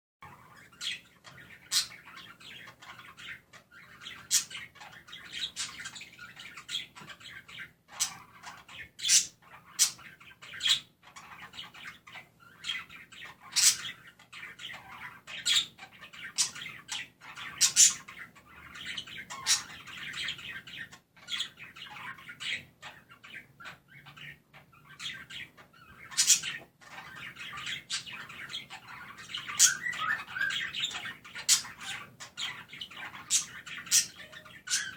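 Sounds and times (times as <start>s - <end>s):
budgerigars chattering and warbling: 0.2s - 34.9s
high-pitched bird chirps and squawks: 0.2s - 34.9s.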